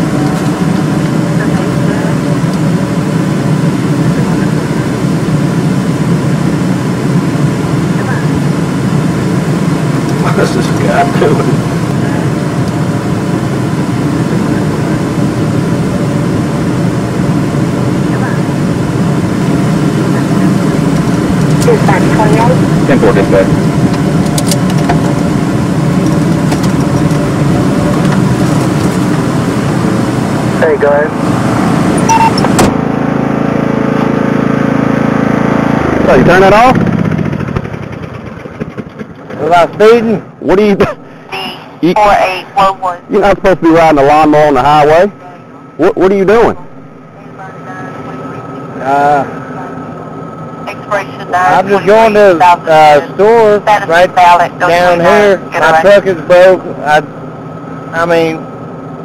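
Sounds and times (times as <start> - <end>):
road noise: 0.0 - 59.0
vehicle engine drone: 0.0 - 59.0.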